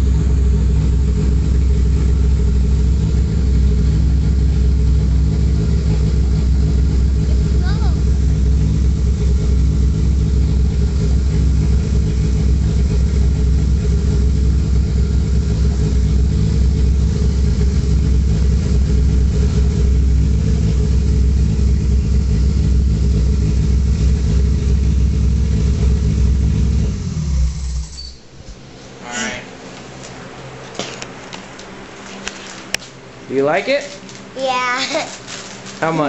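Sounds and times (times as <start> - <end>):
car engine idling: 0.0 - 33.6.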